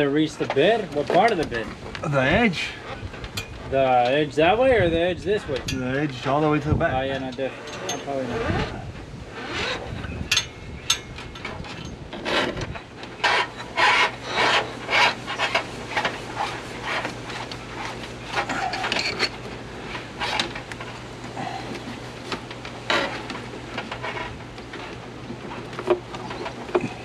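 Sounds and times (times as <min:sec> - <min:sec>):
feed line scraping against frame: 0:00.0 - 0:27.0.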